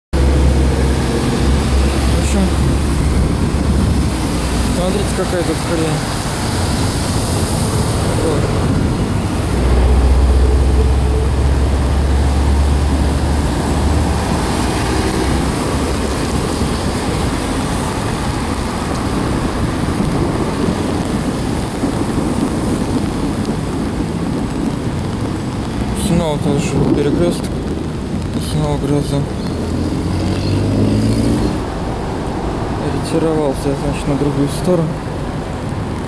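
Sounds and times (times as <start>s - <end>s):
deep rumble: 0.2s - 29.6s
tyres hissing on wet street: 0.2s - 36.0s.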